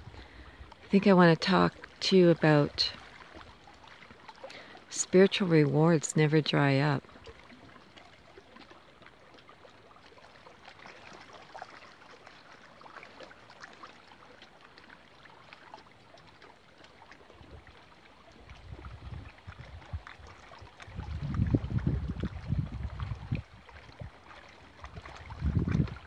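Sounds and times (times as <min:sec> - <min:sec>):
water trickling and gurgling: 0:00.0 - 0:26.0
small splashes: 0:01.6 - 0:05.4, 0:07.0 - 0:26.0.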